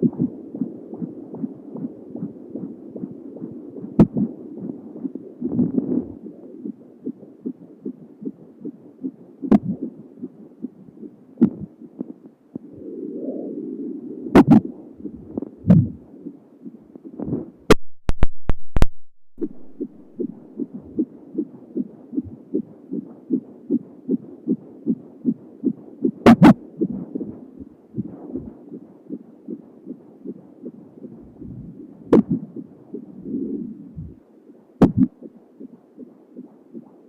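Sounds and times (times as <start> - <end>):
whooshing fetal heartbeat: 0.0 - 17.8, 19.4 - 37.0.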